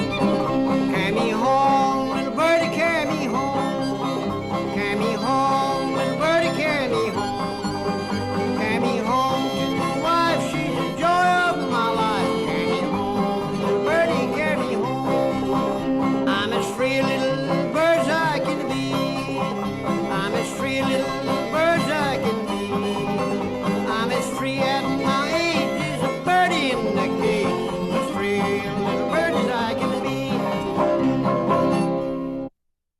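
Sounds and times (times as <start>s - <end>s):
fiddle playing: 0.0s - 32.3s
banjo and guitar: 0.0s - 32.5s.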